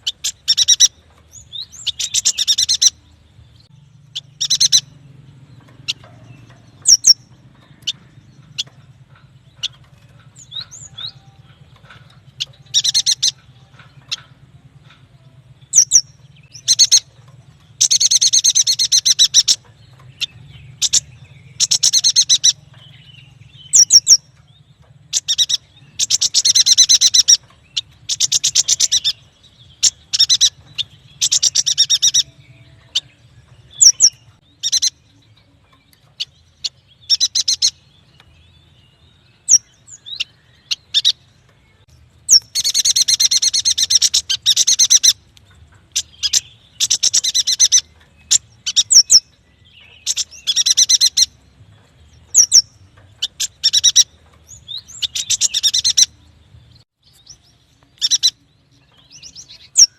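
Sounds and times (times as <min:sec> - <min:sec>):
bird trilling: 0:00.0 - 0:03.0, 0:03.6 - 0:35.2, 0:36.0 - 0:38.3, 0:39.3 - 0:41.4, 0:42.2 - 0:51.4, 0:52.2 - 0:56.2, 0:57.2 - 0:59.9
bird chirps: 0:00.0 - 0:59.9.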